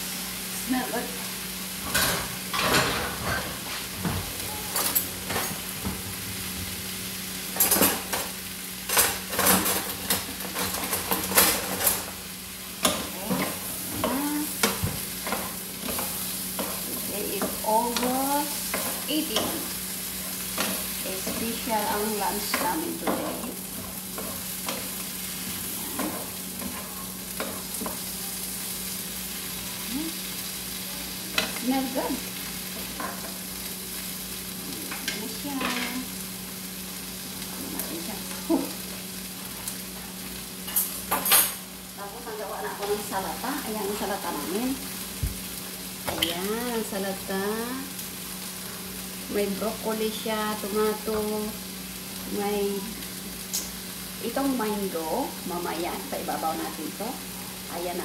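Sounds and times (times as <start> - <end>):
food sizzling in frying pan: 0.0 - 58.0.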